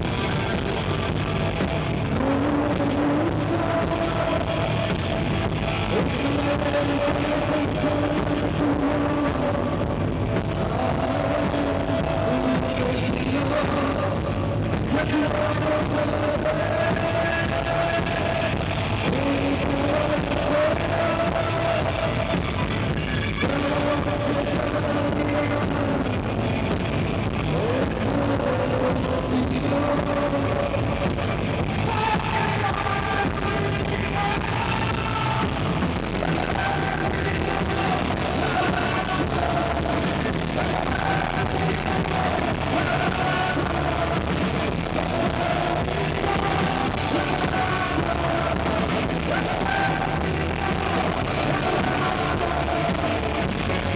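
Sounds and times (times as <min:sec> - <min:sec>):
person singing: 0:00.0 - 0:26.8, 0:27.4 - 0:53.9
rock band playing live: 0:00.0 - 0:53.9.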